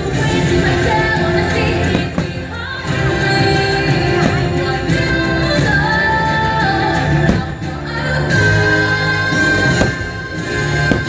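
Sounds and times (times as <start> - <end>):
loud music with singing: 0.0 - 11.0.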